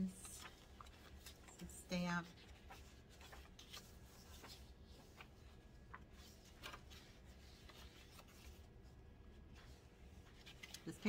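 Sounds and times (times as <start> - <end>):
low steady hum: 0.0 - 11.0
paper pages rustling: 0.0 - 11.0.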